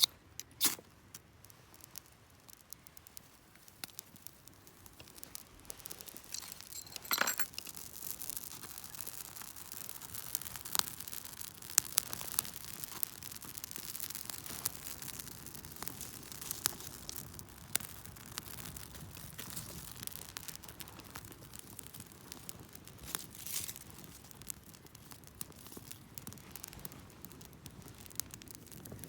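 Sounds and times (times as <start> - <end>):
campfire crackling and snapping: 0.0 - 29.0
fire hissing: 0.0 - 29.0.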